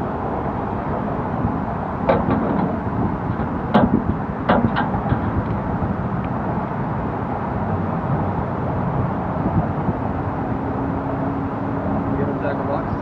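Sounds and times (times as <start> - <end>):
engine hum: 0.0 - 13.0
low outdoor rumble: 0.0 - 13.0.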